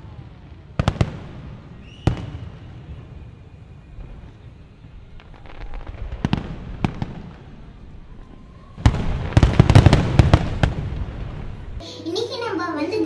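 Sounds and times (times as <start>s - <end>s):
firework bangs and crackles: 0.0s - 11.8s.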